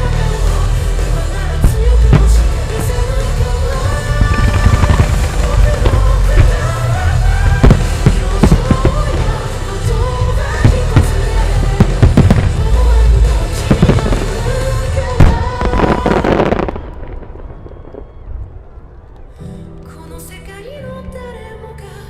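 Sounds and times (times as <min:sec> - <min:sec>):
music: 0:00.0 - 0:22.0
fireworks bursting and crackling: 0:00.7 - 0:19.4.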